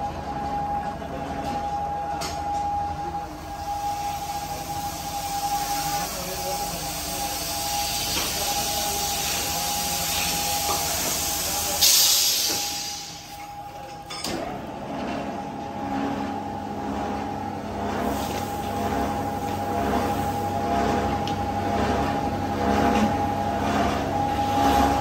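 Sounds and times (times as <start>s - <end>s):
machinery whine and hum: 0.0s - 25.0s.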